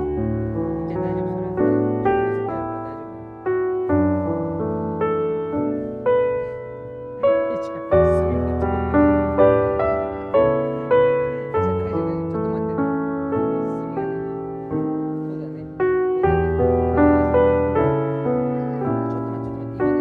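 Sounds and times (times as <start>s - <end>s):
calm piano melody: 0.0s - 20.0s.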